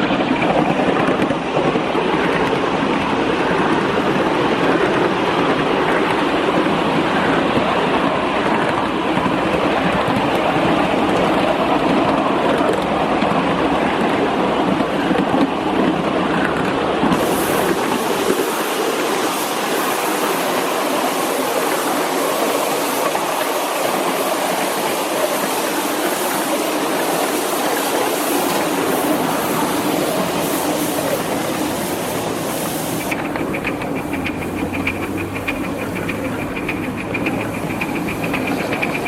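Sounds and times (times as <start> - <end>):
model steam locomotive running: 0.0 - 39.0.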